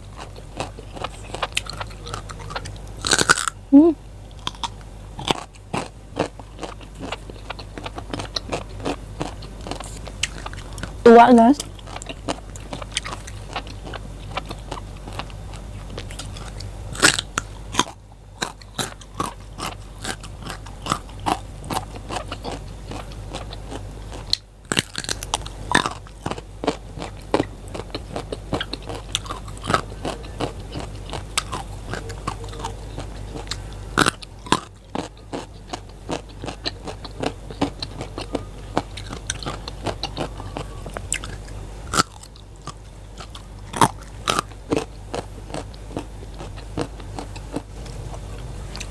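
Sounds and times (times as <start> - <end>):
crunchy chewing of raw vegetables: 0.0 - 48.9.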